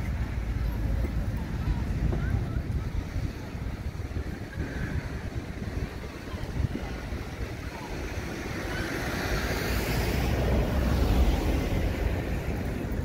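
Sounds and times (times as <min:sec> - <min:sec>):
wheelchair wheels rumbling over cobblestones: 0:00.0 - 0:13.0.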